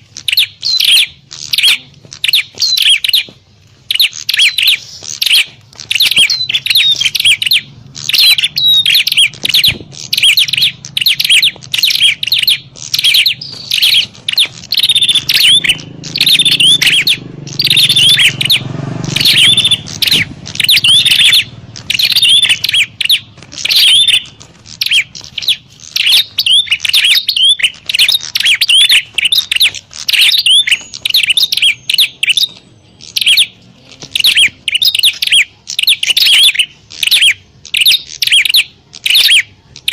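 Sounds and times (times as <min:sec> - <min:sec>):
birds chirping agitatedly: 0:00.0 - 0:39.9.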